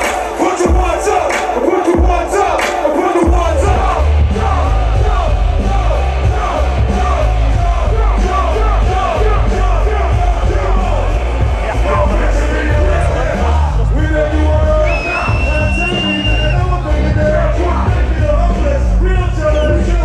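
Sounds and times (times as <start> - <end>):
heavy bass beat: 0.0 - 20.0
vocals shouted over beat: 0.0 - 20.0.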